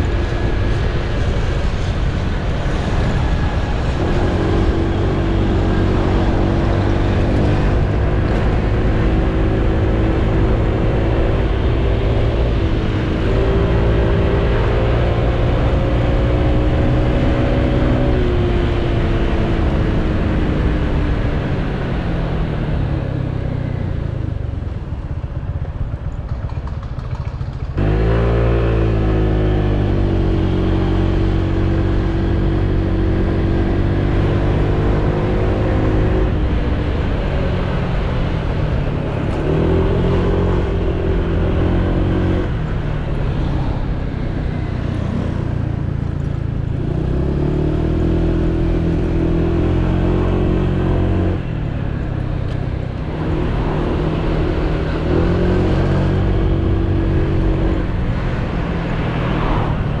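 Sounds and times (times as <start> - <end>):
wind and road noise: 0.0 - 60.0.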